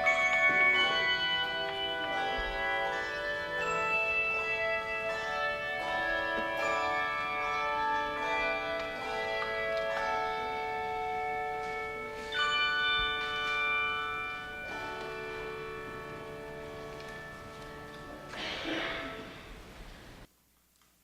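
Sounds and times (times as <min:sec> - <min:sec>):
church organ chords: 0:00.0 - 0:19.6.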